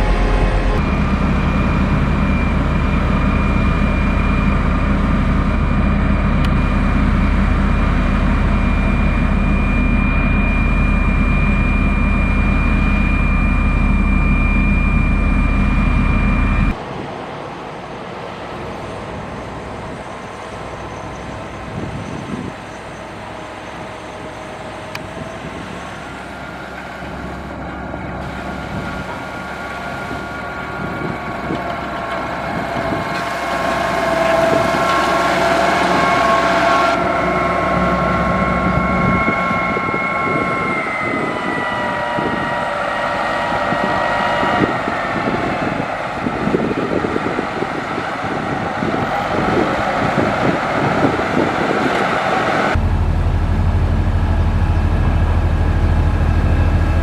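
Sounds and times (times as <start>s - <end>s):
diesel engine rumbling with whine: 0.0s - 16.8s, 18.6s - 57.0s.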